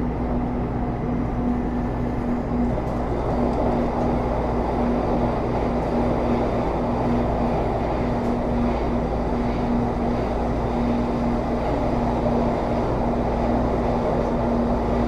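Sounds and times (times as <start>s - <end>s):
low traction motor hum: 0.0s - 15.0s
wheels rumbling on rail: 0.0s - 15.0s.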